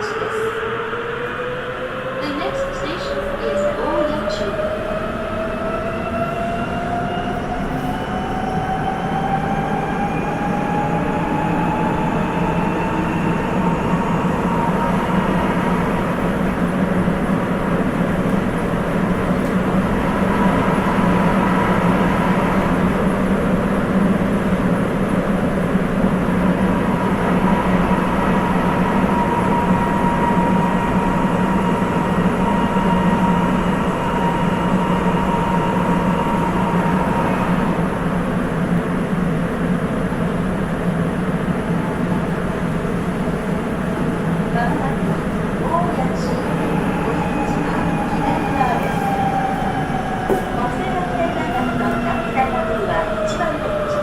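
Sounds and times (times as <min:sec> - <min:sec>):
subway train rolling noise: 0:00.0 - 0:54.0
train inverter whine: 0:00.0 - 0:54.0.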